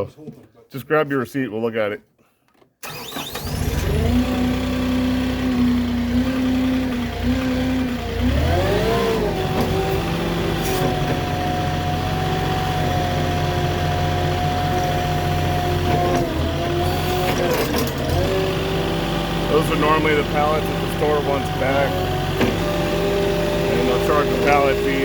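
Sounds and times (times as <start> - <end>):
forklift engine revving: 2.8 - 25.0.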